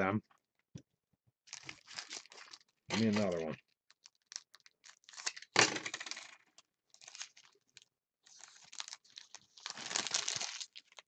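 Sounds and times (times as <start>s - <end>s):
foil wrapper crinkling: 1.5s - 5.5s, 6.1s - 11.0s.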